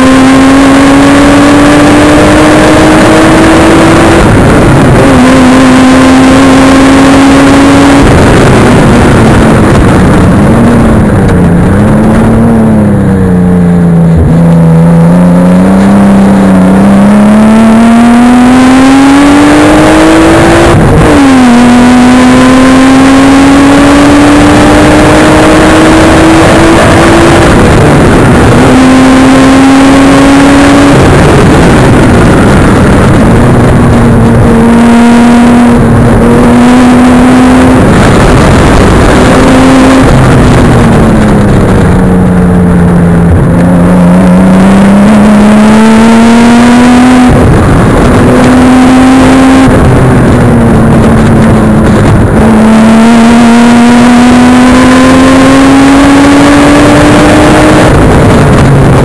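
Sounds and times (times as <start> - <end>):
car engine at hard throttle: 0.0 - 59.0
wind and road noise: 0.0 - 59.0.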